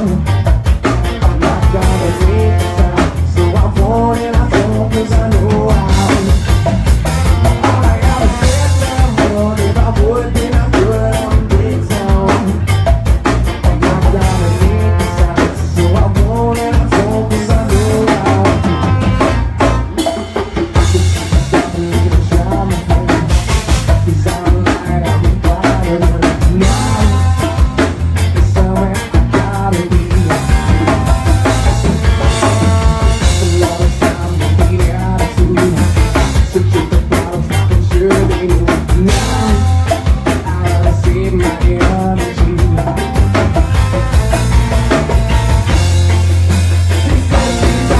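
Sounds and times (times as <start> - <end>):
person singing: 0.0 - 6.7, 7.3 - 19.3, 20.9 - 45.6
live rock band playing: 0.0 - 47.9.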